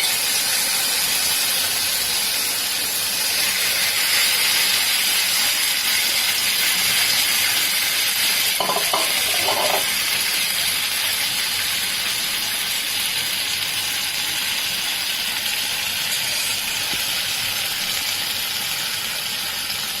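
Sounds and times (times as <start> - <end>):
food sizzling on hot plate: 0.0 - 20.0.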